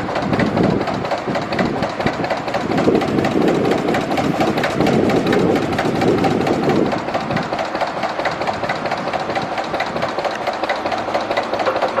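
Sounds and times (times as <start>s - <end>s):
gas engine running: 0.0s - 12.0s.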